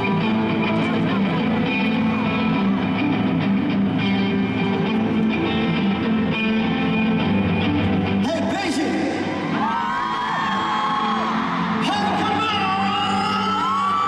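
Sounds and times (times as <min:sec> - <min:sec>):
pop-rock music over sound system: 0:00.0 - 0:14.0.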